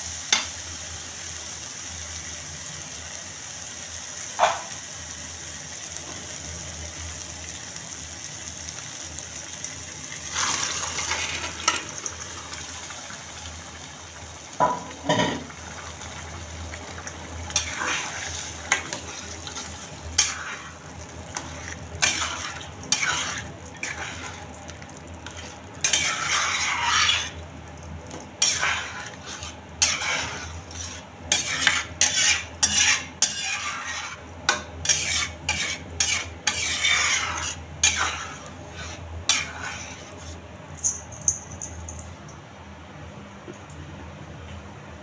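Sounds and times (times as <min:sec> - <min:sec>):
gravy simmering sizzle: 0:00.0 - 0:40.8.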